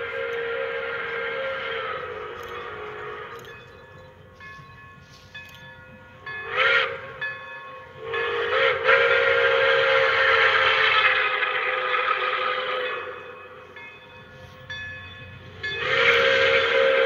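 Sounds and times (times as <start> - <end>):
steam locomotive whistle: 0.0 - 4.4, 6.1 - 14.6, 15.4 - 17.0.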